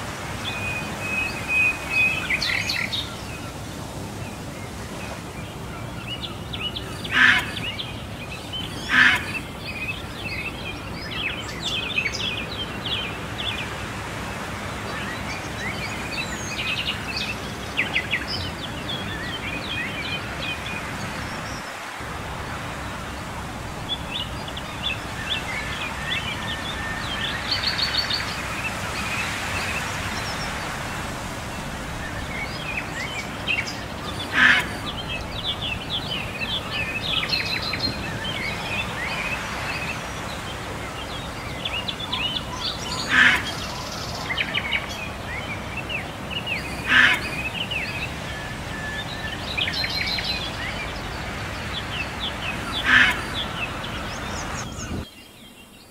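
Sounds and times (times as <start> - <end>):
small birds chirping: 0.0 - 55.9
steady background hiss: 0.0 - 55.9.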